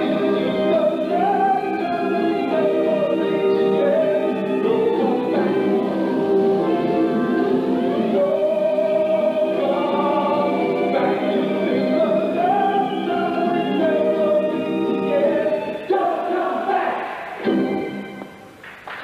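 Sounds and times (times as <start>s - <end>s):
cast singing together: 0.0s - 18.3s.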